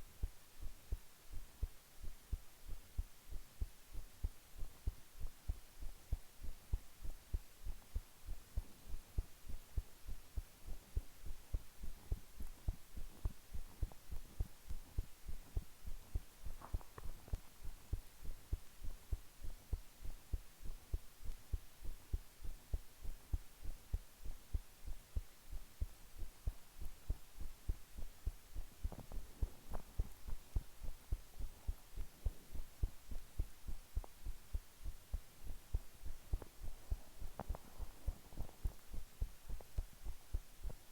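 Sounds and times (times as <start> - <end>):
heart beating: 0.0 - 40.9.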